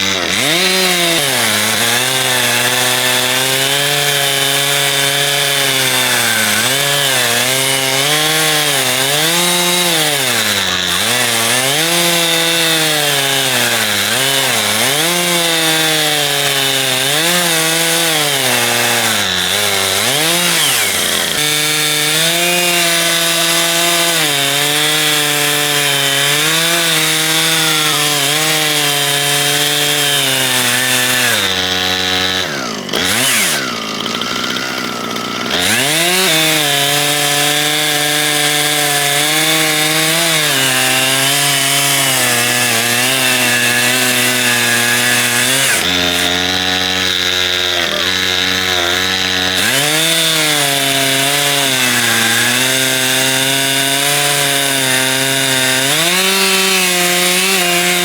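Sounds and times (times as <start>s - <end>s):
chainsaw ripping a log: 0.0s - 58.0s.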